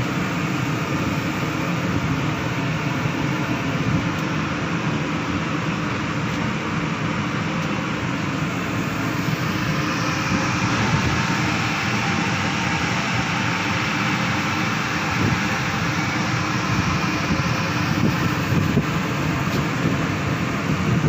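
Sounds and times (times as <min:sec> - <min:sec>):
ship engines droning: 0:00.0 - 0:21.0.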